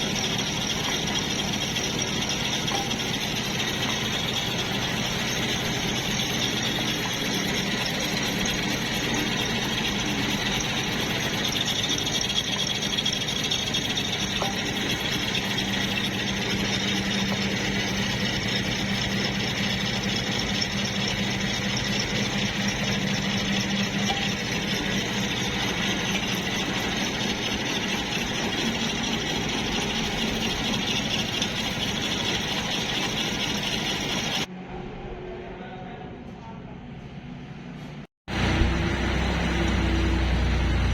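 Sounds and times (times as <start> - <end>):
welding machine hum: 0.0 - 34.5, 38.3 - 40.9.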